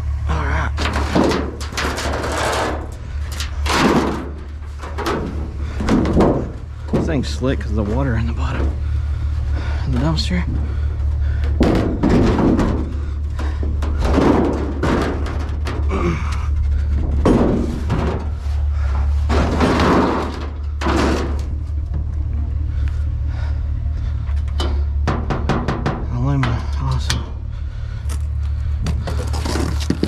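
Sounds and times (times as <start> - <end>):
scrap metal clattering in dumpster: 0.0 - 30.0
steady low hum: 0.0 - 30.0.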